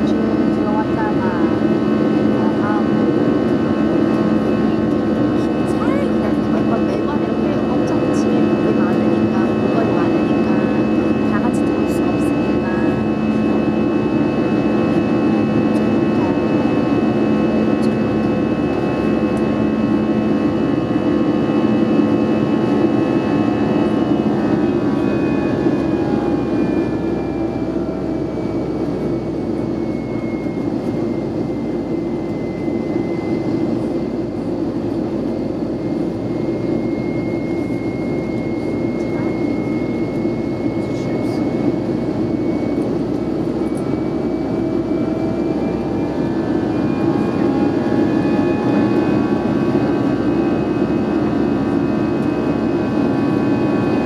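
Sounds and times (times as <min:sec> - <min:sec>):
jet engine roar in cabin: 0:00.0 - 0:54.0.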